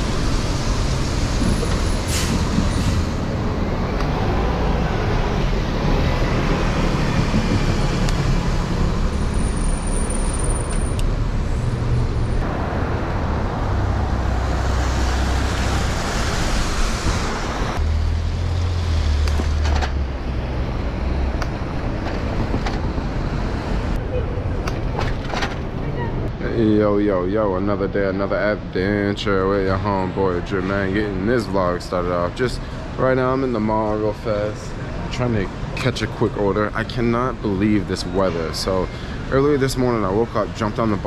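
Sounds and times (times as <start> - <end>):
bus and cars on wet pavement: 0.0 - 41.0.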